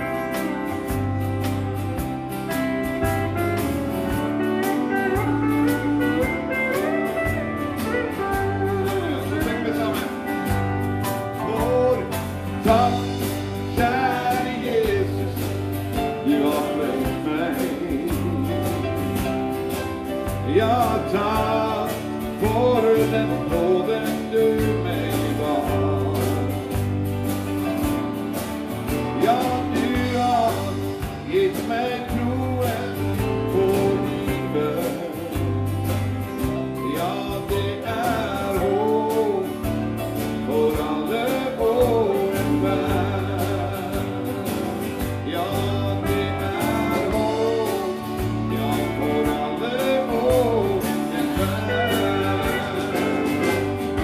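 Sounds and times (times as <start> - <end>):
country gospel band playing: 0.0 - 54.0
steel guitar gliding notes: 0.0 - 54.0.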